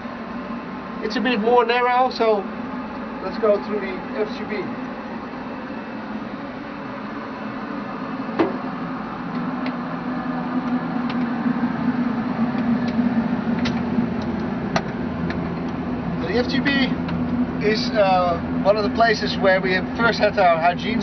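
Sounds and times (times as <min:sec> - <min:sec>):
ventilation fans humming and hissing: 0:00.0 - 0:21.0.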